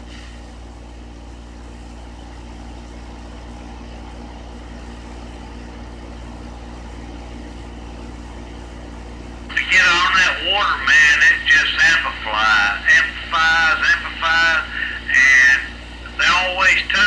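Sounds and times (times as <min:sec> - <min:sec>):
radio speaker hum and hiss: 0:00.0 - 0:17.0.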